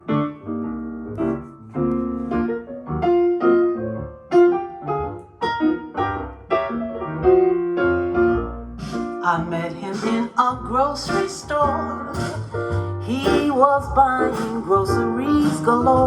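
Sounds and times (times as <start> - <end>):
solo piano playing: 0.0 - 16.0.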